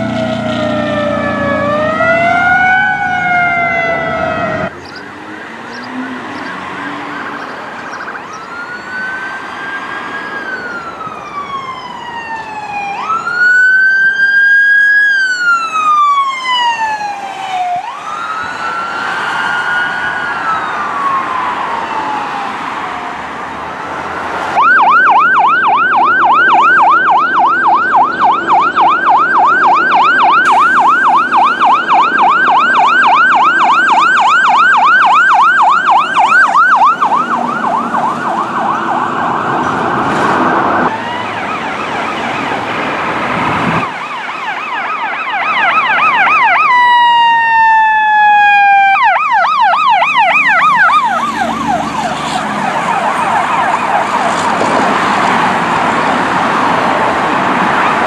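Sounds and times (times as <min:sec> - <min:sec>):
electronic siren yelping: 0:00.0 - 0:23.6, 0:24.5 - 0:58.0.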